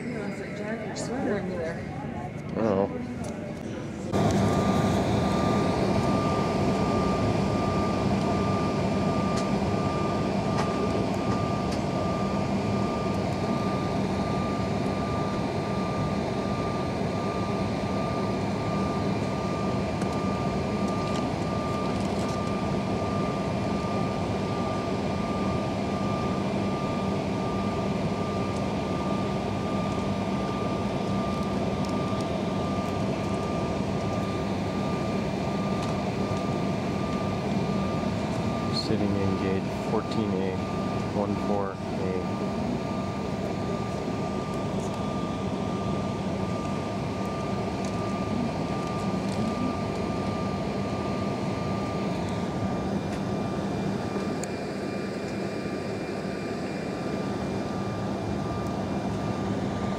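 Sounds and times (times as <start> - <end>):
high machinery whine: 0.0 - 59.9.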